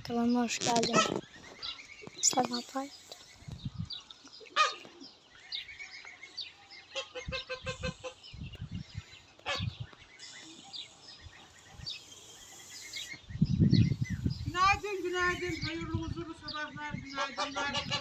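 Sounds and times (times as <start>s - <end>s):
young geese peeping: 0.4s - 18.0s.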